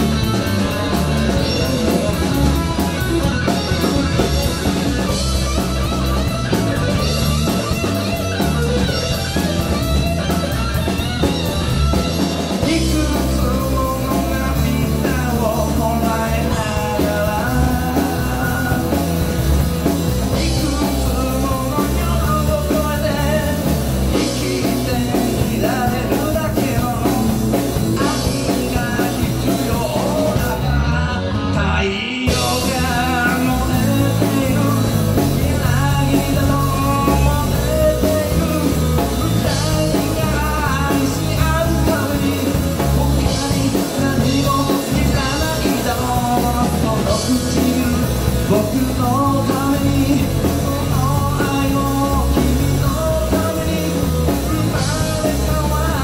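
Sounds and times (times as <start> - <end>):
drum kit rock beat: 0.0 - 56.0
electric bass: 0.0 - 56.0
electric guitar: 0.0 - 56.0.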